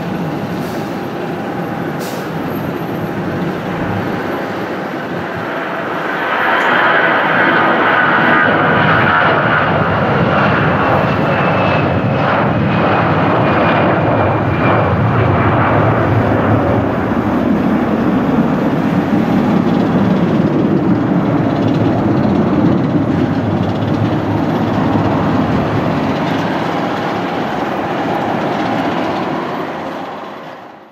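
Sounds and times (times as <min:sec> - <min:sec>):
high engine whine: 0:00.0 - 0:30.9
jet engines rumbling at takeoff: 0:00.0 - 0:30.9.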